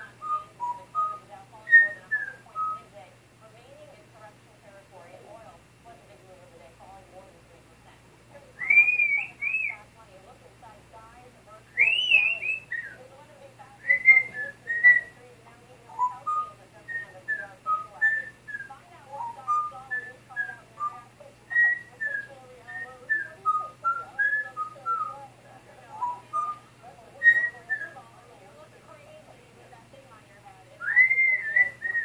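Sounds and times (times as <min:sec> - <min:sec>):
soft warbling chatter: 0:00.0 - 0:32.0.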